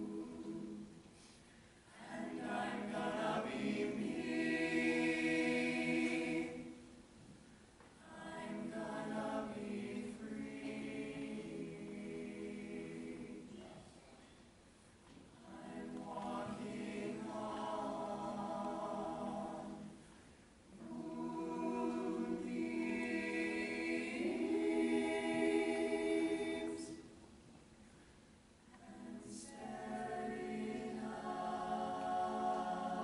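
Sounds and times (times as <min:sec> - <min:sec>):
vocal ensemble singing a cappella: 0:00.0 - 0:07.0, 0:08.0 - 0:14.1, 0:15.3 - 0:27.3, 0:28.7 - 0:33.0.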